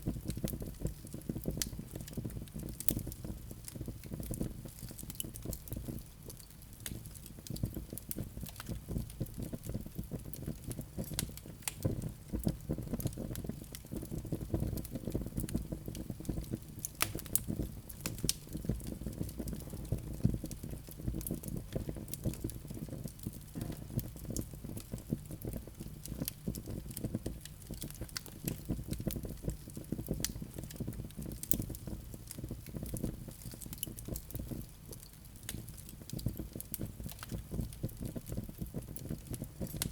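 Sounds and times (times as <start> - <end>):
log fire crackling and popping: 0.0 - 39.9
low rumble of flames: 0.0 - 39.9.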